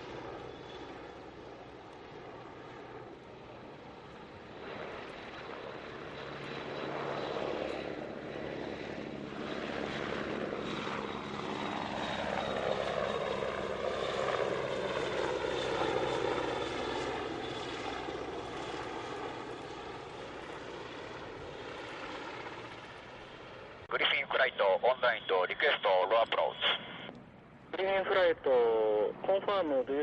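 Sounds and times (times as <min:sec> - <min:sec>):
helicopters flying past: 0:00.0 - 0:30.0.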